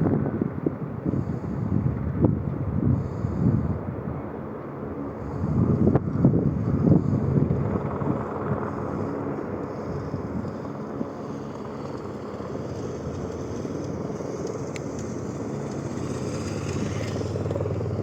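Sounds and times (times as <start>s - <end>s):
helicopter engine and rotor: 0.0s - 18.0s.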